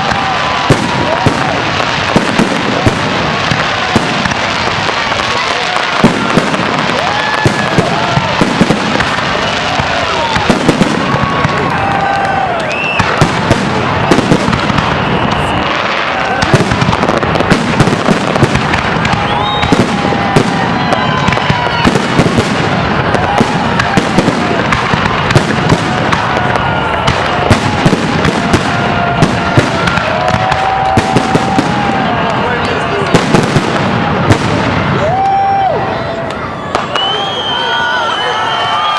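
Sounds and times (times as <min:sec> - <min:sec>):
people's voices: 0:00.0 - 0:17.5, 0:18.2 - 0:38.9
fireworks bangs and crackles: 0:00.0 - 0:38.9.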